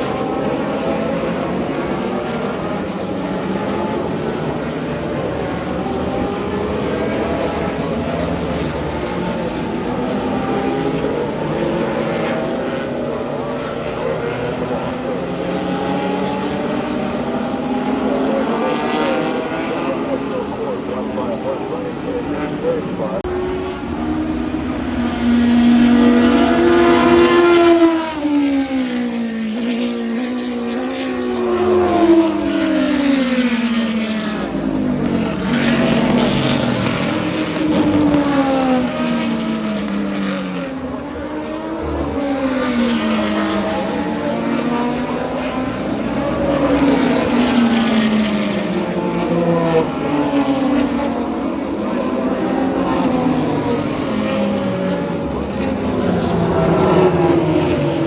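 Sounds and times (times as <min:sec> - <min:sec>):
race cars passing at speed: 0:00.0 - 0:58.0.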